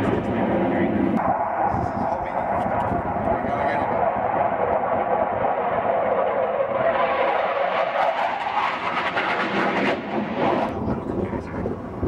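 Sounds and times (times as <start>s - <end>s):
jet engine roaring overhead: 0.0s - 12.0s.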